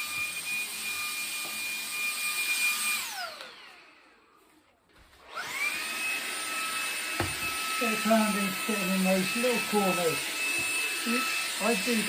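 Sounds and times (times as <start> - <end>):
handheld vacuum whining: 0.0 - 4.5, 5.2 - 12.0.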